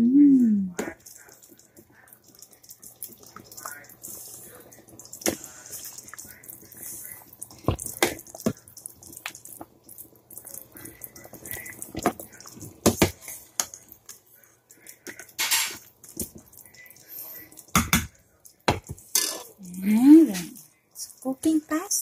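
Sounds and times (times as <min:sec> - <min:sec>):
broth dripping and splashing: 0:00.8 - 0:22.0.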